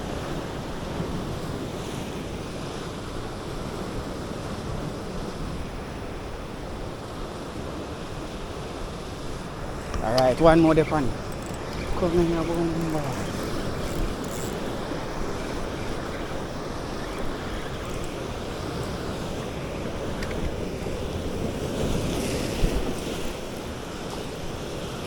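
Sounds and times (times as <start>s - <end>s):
sea surf washing against rocks: 0.1s - 25.0s.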